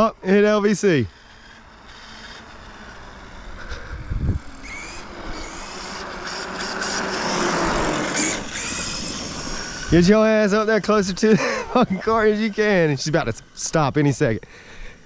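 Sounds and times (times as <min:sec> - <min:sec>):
electric rc truck driving: 0:00.0 - 0:15.0.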